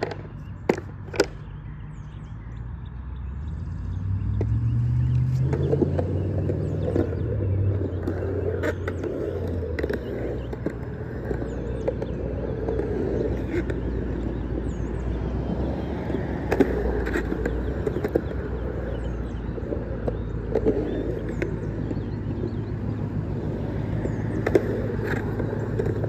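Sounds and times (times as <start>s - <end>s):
skateboard clacks: 0.0s - 1.6s, 5.4s - 26.0s
skateboard wheels rumbling on concrete: 0.0s - 2.6s, 4.0s - 26.0s.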